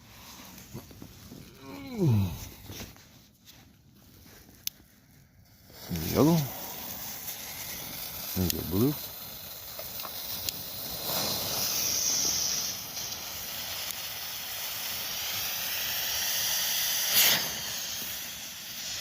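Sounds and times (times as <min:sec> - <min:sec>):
smoke balls hissing: 0:00.0 - 0:19.0.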